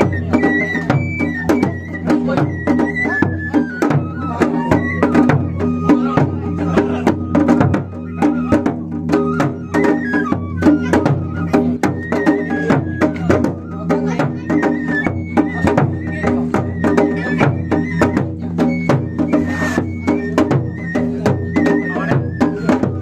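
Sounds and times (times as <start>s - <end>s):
high flute melody: 0.0s - 23.0s
taiko drum rapid rhythm: 0.0s - 23.0s.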